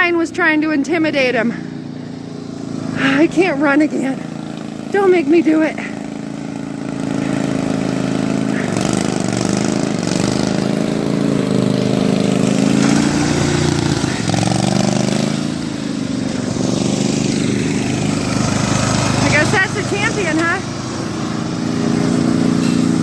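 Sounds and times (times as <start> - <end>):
lawnmower engine revving: 0.0 - 23.0.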